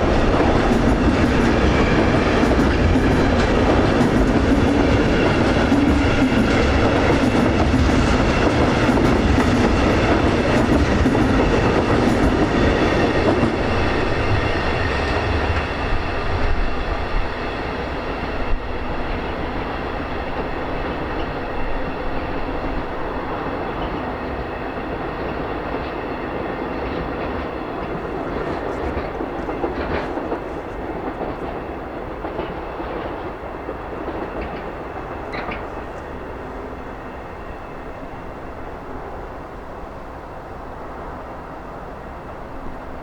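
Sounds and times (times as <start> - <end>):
train rumbling and clattering: 0.0 - 43.0.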